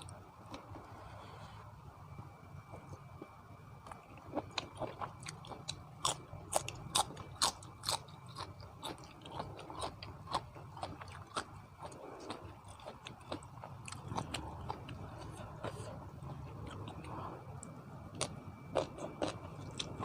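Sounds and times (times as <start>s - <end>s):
crunching raw vegetables: 3.2s - 20.0s.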